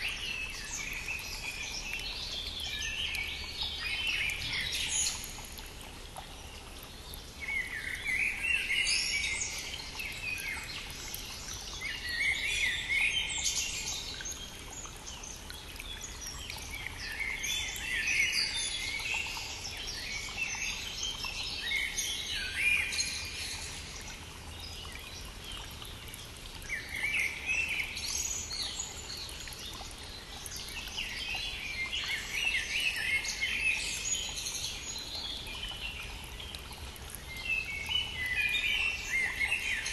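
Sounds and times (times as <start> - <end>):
songbird singing: 0.0 - 39.9
stream flowing: 0.0 - 39.9.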